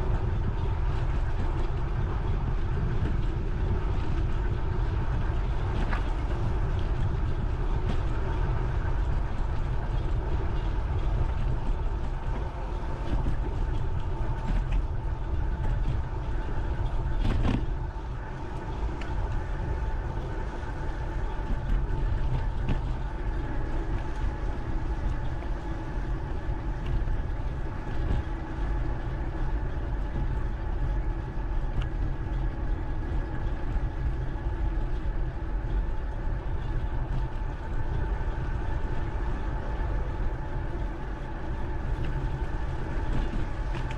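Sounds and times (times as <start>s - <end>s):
faint steady hum: 0.0s - 43.9s
wind buffeting microphone: 0.0s - 43.9s.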